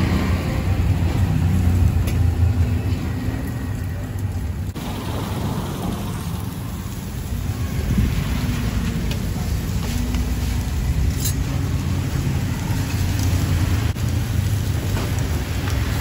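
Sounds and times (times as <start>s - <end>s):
engine running with low rumble: 0.0s - 16.0s.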